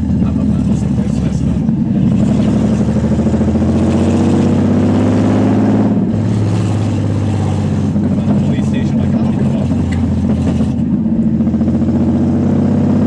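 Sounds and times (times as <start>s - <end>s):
car engine revving without exhaust: 0.0s - 13.0s.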